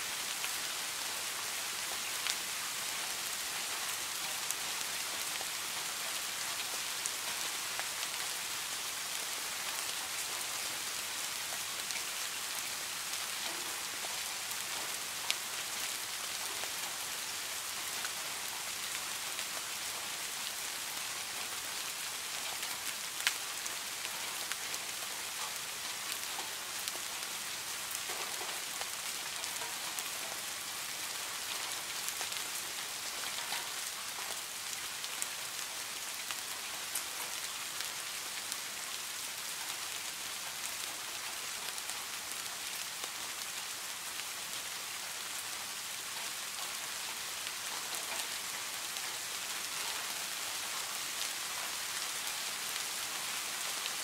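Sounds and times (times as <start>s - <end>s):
rain falling on a pond: 0.0s - 54.0s.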